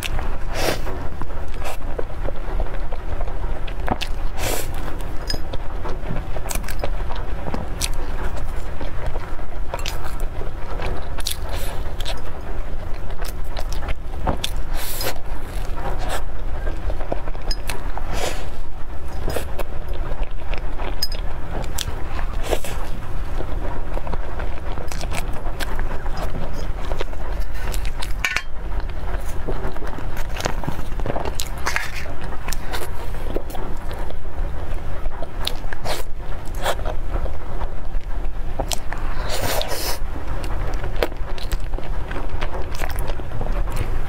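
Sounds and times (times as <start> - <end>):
chewing and mouth sounds: 0.0 - 44.0
steady low hum: 0.0 - 44.0.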